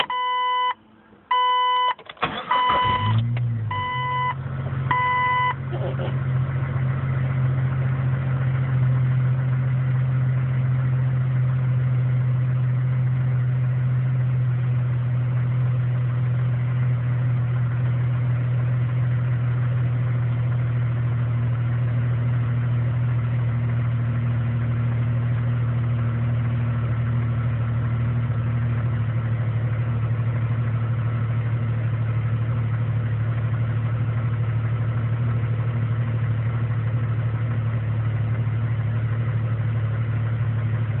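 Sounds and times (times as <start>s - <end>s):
car engine idling roughly: 2.2s - 41.0s.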